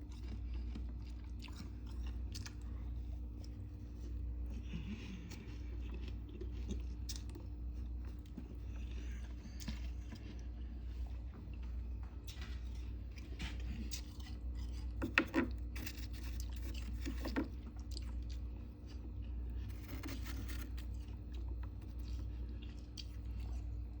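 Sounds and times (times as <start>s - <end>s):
chewing frost crunches: 0.0s - 24.0s
steady low hum: 0.0s - 24.0s.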